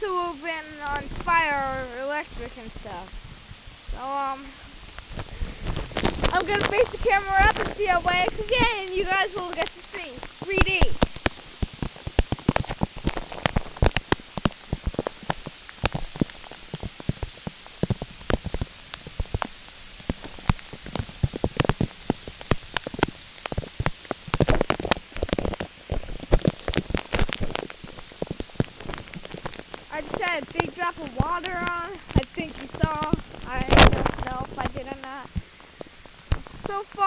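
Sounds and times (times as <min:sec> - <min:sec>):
raindrops tapping on plastic wrap: 0:00.0 - 0:37.0
steady hiss of rain: 0:00.0 - 0:37.0.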